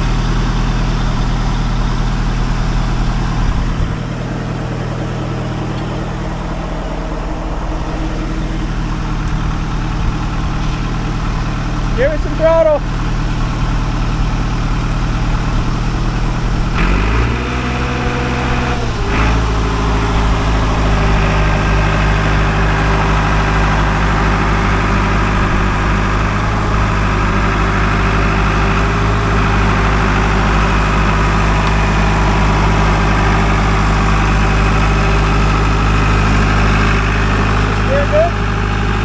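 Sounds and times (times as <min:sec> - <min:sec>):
diesel engine revving and rumbling: 0:00.0 - 0:39.0.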